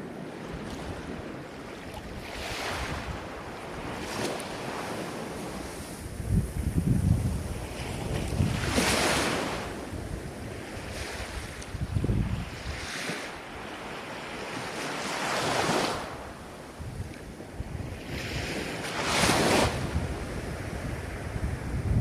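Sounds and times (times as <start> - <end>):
ocean waves breaking: 0.0 - 22.0
wind rumbling on microphone: 0.0 - 22.0.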